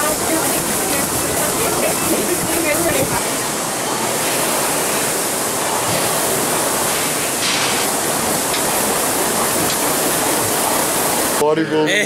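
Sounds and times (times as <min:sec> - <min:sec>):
rushing air: 0:00.0 - 0:11.4.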